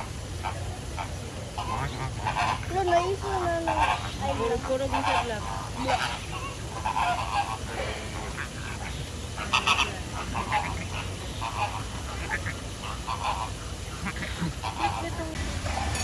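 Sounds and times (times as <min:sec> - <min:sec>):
birds honking: 0:00.0 - 0:16.0.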